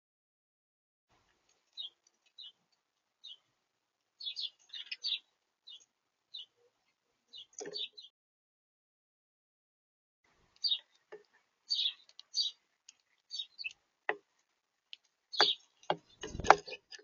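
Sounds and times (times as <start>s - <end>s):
small birds chirping: 1.1s - 8.1s, 10.3s - 17.0s.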